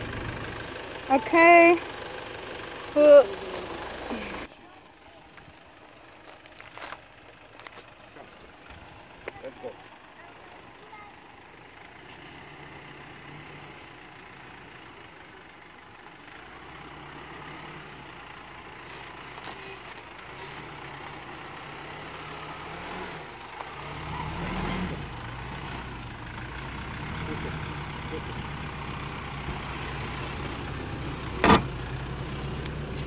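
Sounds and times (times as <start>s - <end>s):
diesel engine at low revs: 0.0s - 33.0s.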